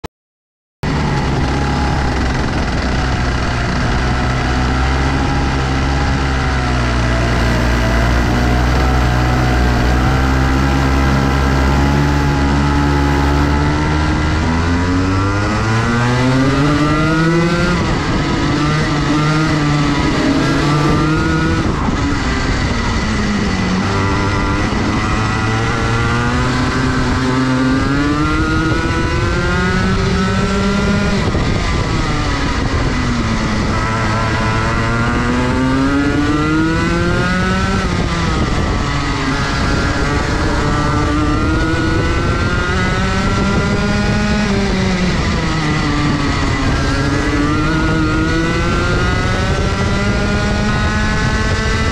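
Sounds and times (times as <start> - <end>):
kart engine racing: 0.8 - 51.9.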